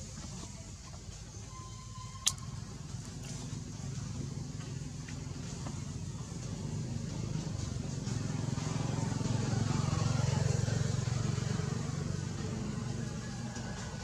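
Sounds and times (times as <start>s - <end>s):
vehicle engine passing by: 2.3s - 14.0s.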